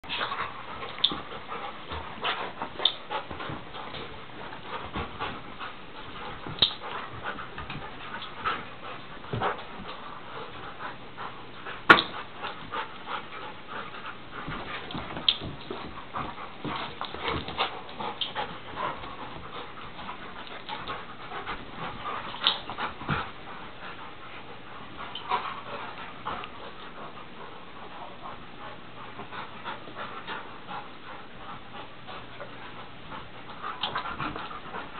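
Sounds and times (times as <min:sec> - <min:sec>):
dogs panting: 0:00.0 - 0:34.9
dogs scuffling on carpet: 0:00.1 - 0:34.9.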